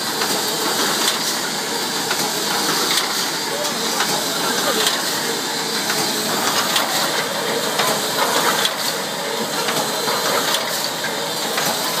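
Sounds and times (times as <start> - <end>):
welding machine hiss: 0.0 - 12.0.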